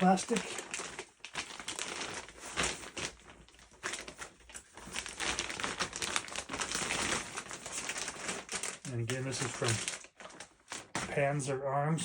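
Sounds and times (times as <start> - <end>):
plastic wrapping crinkling: 0.0 - 11.5.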